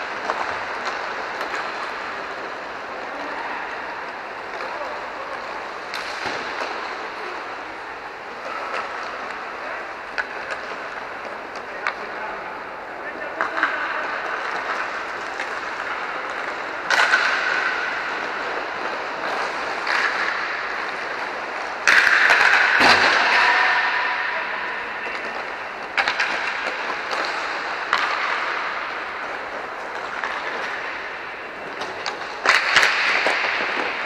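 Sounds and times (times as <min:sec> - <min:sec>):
hockey sticks and puck knocking: 0:00.0 - 0:34.0
rink background noise: 0:00.0 - 0:34.0.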